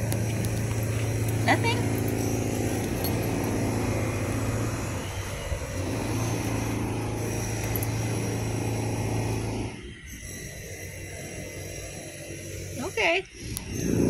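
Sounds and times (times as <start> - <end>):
drilling machinery humming: 0.0 - 14.0.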